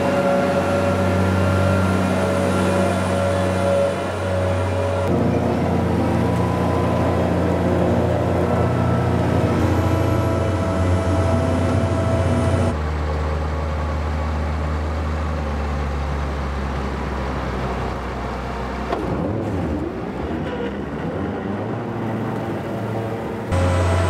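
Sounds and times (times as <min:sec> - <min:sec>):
diesel engine running: 0:00.0 - 0:20.3, 0:20.9 - 0:24.0.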